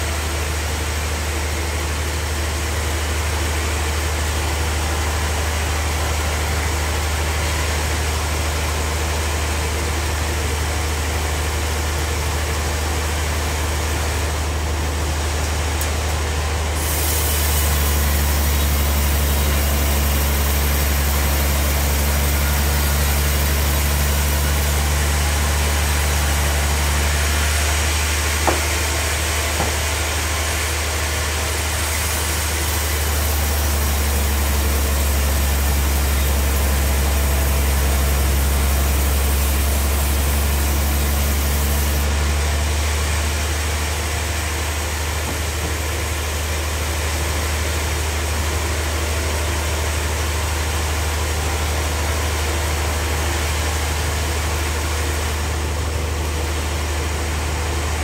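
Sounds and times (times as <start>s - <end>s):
bandsaw mill sawing log: 3.1s - 58.0s.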